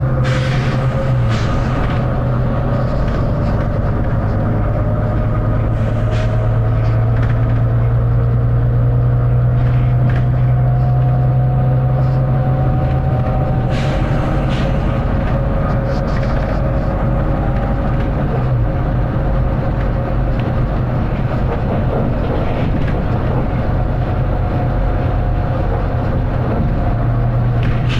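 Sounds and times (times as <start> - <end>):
bus diesel engine with whine: 0.0 - 27.9.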